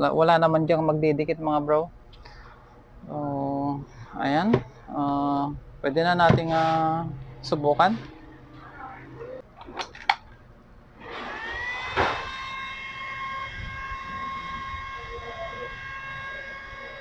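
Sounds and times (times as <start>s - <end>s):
cooling fan whine and hum: 0.0s - 17.0s.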